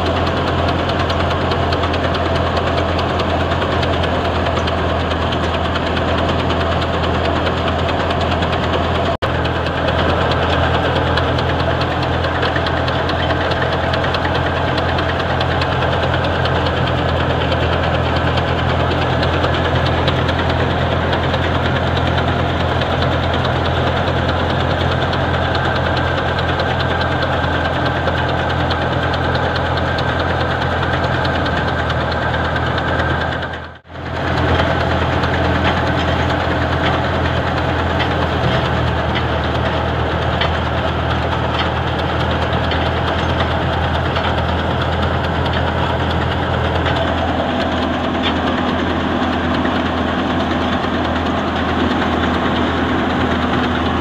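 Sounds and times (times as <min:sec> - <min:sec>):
thresher running with mechanical din: 0:00.0 - 0:54.0.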